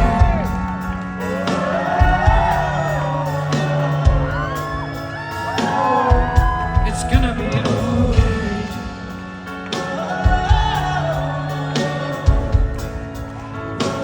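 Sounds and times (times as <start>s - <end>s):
drum beat: 0.0s - 14.0s
person singing: 0.0s - 14.0s.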